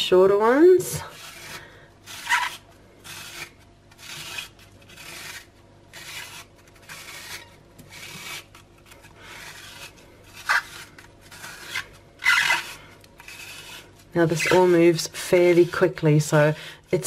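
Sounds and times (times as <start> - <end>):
spiralizer blade rasping scrape: 1.0 - 15.9.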